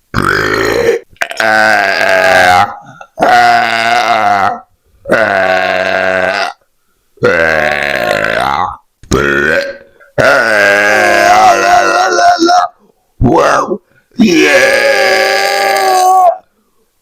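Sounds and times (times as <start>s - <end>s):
man burping loudly: 0.1s - 6.6s, 7.2s - 16.4s.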